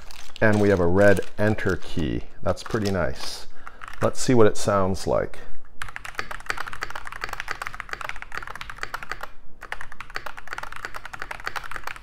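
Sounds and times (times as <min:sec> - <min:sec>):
fast mechanical keyboard typing: 0:00.0 - 0:04.2, 0:05.8 - 0:12.0.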